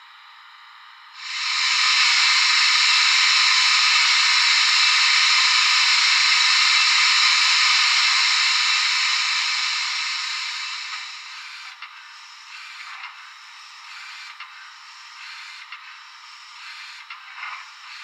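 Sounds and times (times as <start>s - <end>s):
model locomotive steam hiss: 1.2s - 18.0s.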